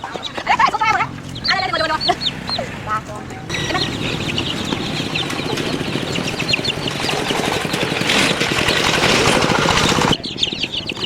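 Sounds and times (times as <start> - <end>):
chickens clucking: 0.0 - 11.0
engine running: 0.0 - 11.0.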